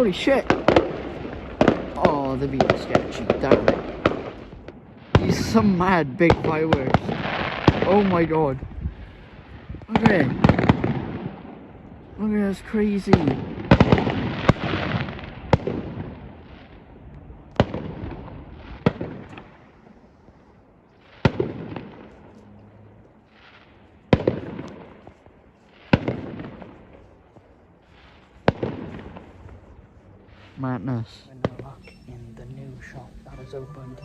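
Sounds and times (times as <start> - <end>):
fireworks bangs echoing: 0.0 - 19.9, 21.0 - 22.3, 23.3 - 34.0.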